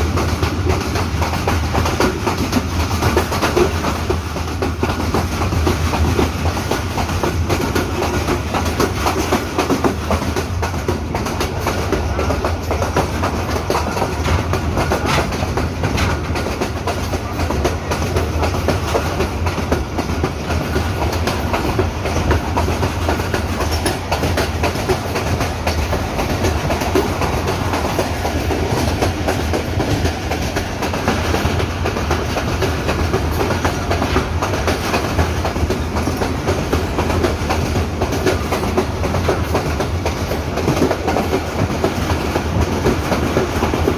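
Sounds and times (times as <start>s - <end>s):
train wheel and rail rumble: 0.0s - 43.9s
wheels clacking over rail joints: 0.0s - 43.9s.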